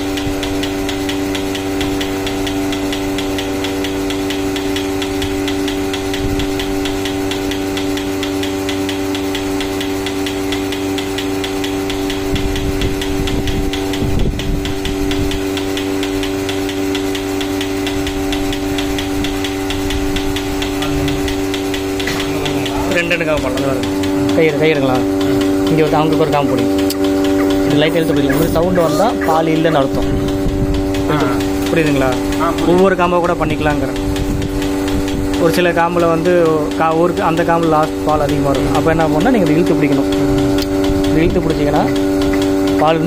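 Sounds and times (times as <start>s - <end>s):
pulsator ticking: 0.0s - 43.0s
vacuum pump motor humming: 0.0s - 43.0s.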